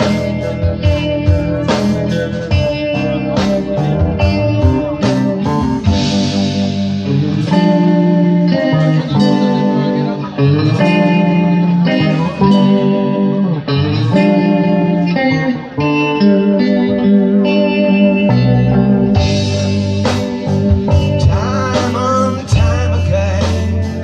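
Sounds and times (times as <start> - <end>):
guitar held notes: 0.0 - 24.0
live band playing slow song: 0.0 - 24.0.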